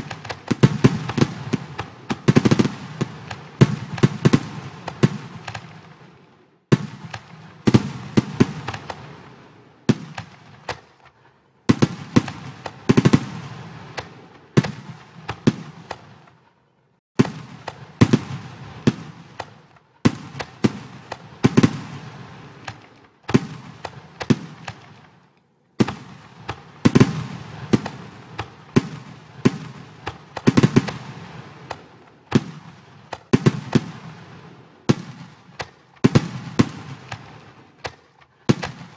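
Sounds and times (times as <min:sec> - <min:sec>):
fireworks bursting with crackles: 0:00.0 - 0:38.9.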